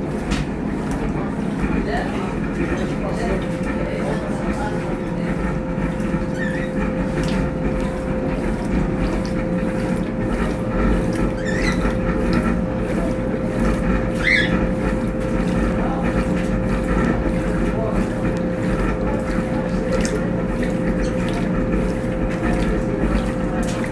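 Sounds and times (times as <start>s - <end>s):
washing machine motor hum: 0.0s - 23.9s.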